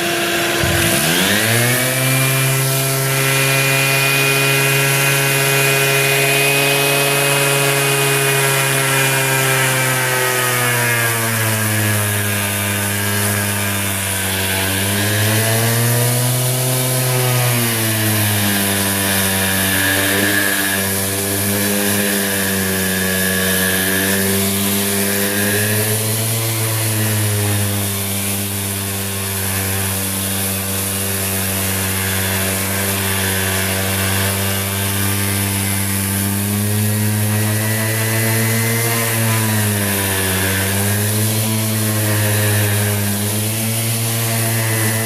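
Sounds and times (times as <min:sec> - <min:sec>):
orbital sander running: 0:00.0 - 0:45.0.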